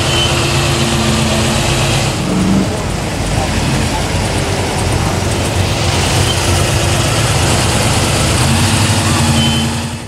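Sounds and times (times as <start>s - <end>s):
car engines rumbling: 0.0s - 10.0s.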